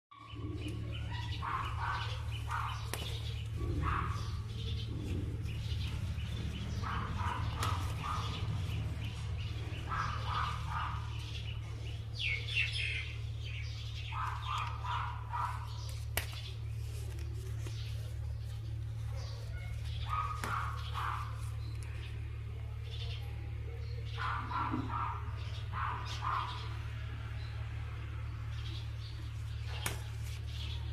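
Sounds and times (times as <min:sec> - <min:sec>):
birds chirping: 0:00.1 - 0:30.9
steady low hum: 0:00.2 - 0:30.9.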